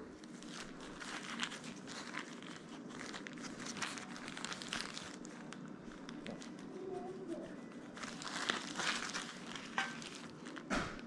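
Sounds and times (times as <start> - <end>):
plastic gloves crinkling: 0.0 - 11.0.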